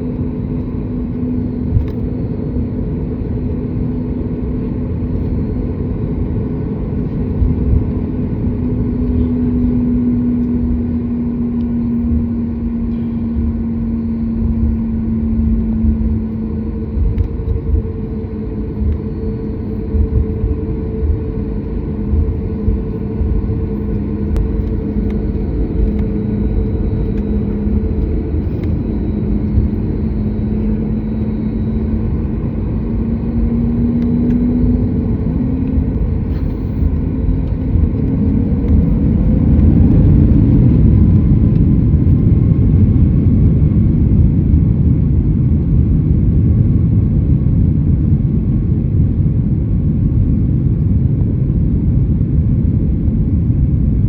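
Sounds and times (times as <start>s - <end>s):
jet engines rumbling in cabin: 0.0s - 54.0s.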